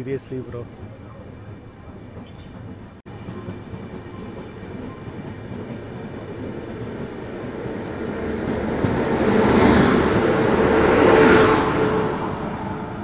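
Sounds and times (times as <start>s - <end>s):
moving train rumble: 0.0s - 13.0s.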